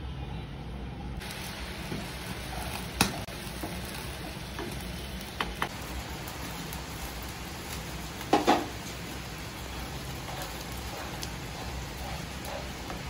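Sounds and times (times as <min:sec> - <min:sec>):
curry sizzling in a pan: 0:01.2 - 0:13.0.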